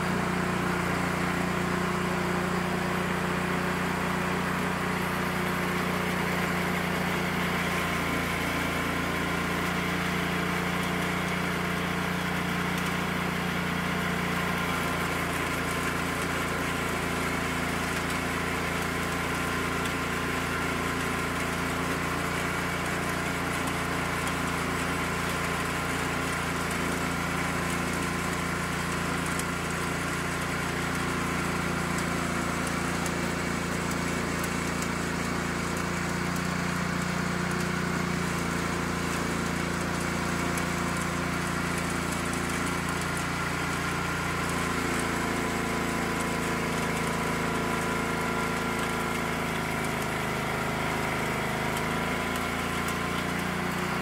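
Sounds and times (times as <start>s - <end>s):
garden tractor engine running: 0.0s - 54.0s
rototiller working soil: 0.0s - 54.0s.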